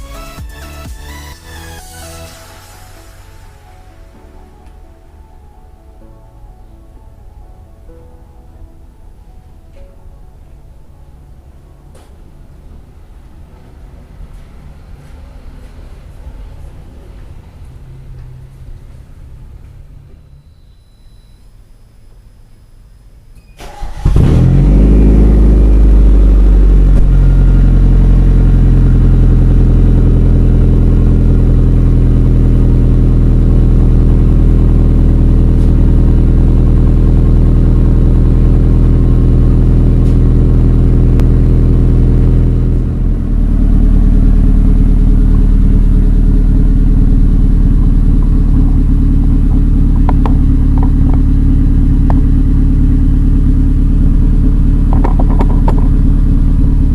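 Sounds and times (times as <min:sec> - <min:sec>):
car engine starting and idling: 0:00.1 - 0:56.9.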